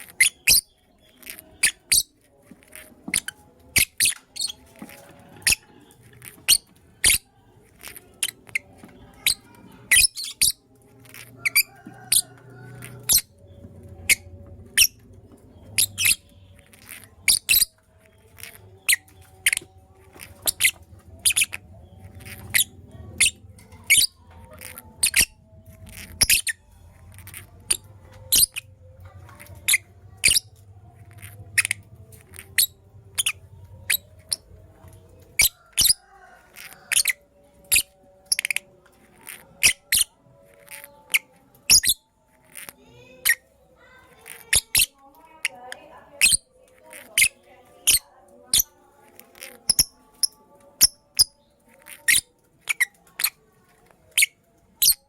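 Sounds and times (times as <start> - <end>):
lovebirds chirping: 0.0 - 53.4.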